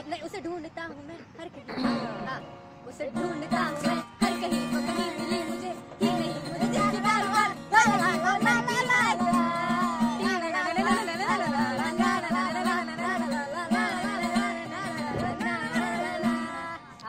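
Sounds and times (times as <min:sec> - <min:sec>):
acoustic guitar: 0:01.5 - 0:17.0.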